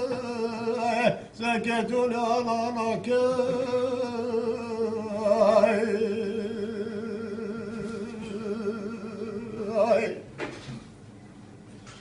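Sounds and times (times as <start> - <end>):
man singing unaccompanied: 0.0 - 10.3.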